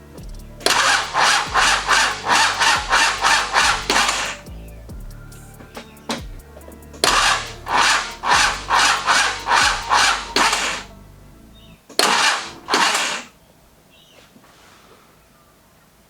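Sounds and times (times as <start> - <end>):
diesel engine cranking slowly: 0.0 - 13.2.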